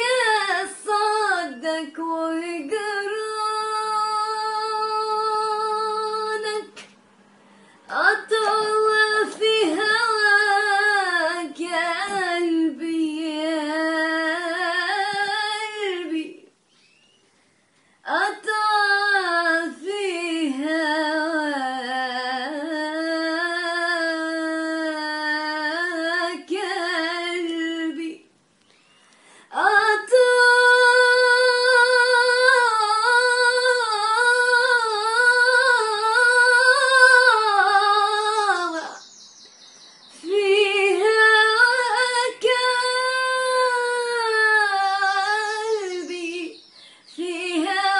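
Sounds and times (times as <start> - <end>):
woman singing unaccompanied: 0.0 - 6.9, 7.9 - 16.6, 18.0 - 28.3, 29.5 - 39.1, 40.1 - 47.9.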